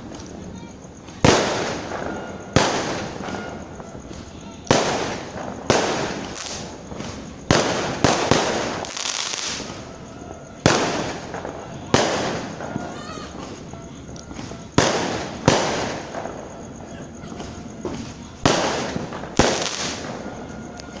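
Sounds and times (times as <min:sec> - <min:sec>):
fireworks bangs with echo: 0:00.0 - 0:21.0
fireworks hiss: 0:00.0 - 0:21.0.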